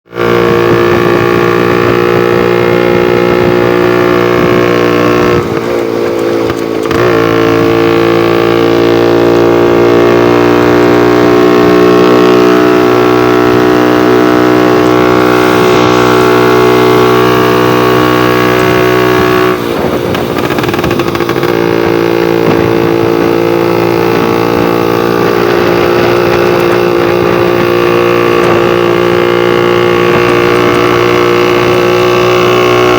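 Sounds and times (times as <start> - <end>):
scooter engine running: 0.1 - 32.9.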